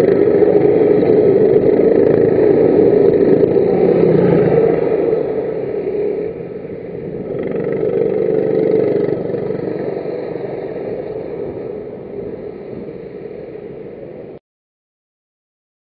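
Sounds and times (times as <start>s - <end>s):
racing kart engines: 0.0s - 13.2s.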